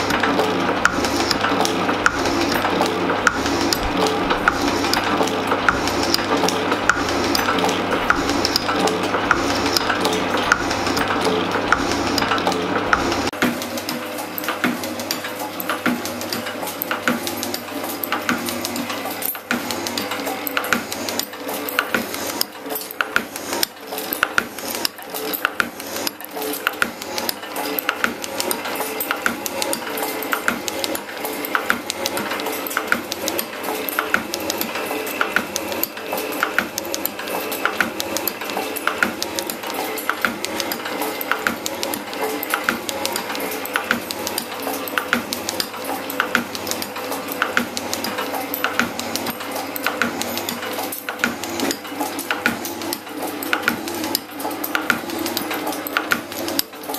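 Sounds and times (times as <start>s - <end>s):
metal shaper running: 0.0s - 56.9s.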